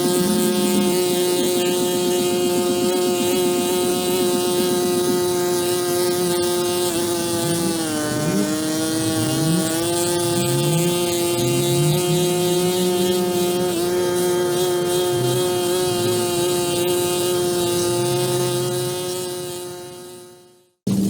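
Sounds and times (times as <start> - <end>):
motor humming: 0.0 - 20.2.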